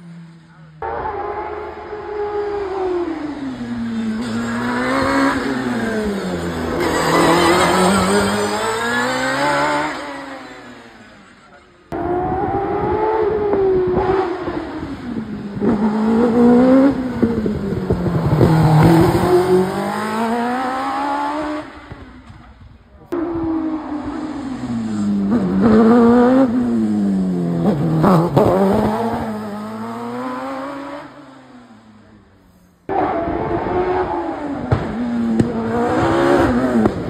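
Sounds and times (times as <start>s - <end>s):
racing car engines revving: 0.0s - 37.0s.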